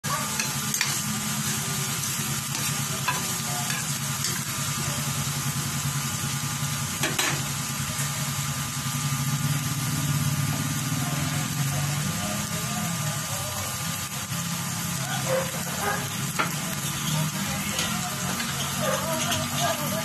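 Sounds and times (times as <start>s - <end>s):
meat sizzling in frying pan: 0.0s - 20.0s.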